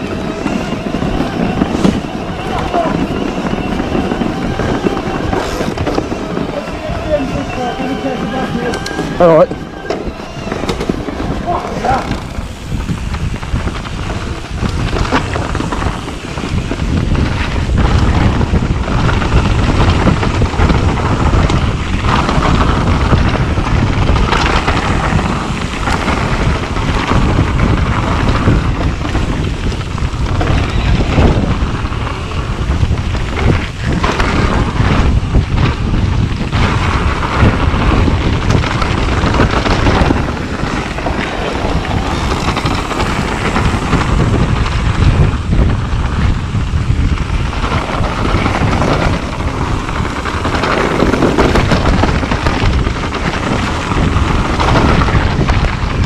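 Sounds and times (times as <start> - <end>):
bike knocking and rattling: 0.0 - 56.0
tyres crunching over gravel: 0.0 - 56.0
wind buffeting microphone: 0.0 - 56.0.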